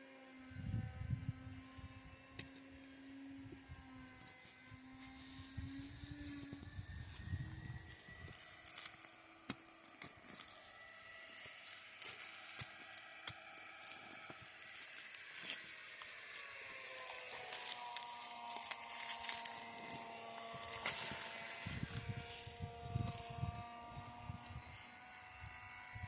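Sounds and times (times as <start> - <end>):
soil and roots crackling: 3.4 - 26.0.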